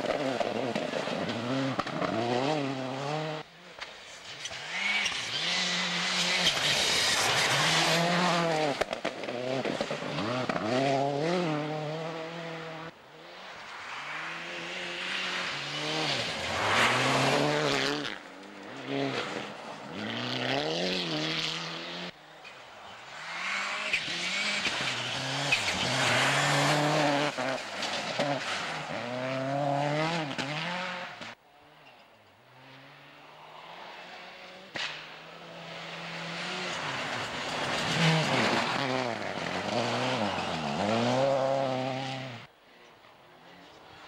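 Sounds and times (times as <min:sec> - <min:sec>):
rally car engines revving: 0:00.0 - 0:42.5.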